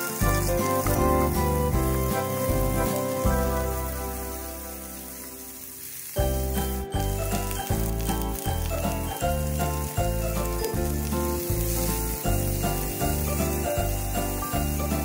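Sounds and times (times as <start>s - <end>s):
background music with beat: 0.0s - 5.0s, 6.2s - 15.0s
vegetables sizzling in a pan: 0.0s - 15.0s.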